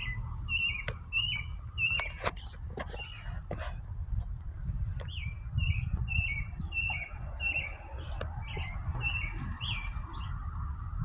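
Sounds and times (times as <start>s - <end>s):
songbird chirping: 0.0s - 11.0s
steady low rumble: 0.0s - 11.0s.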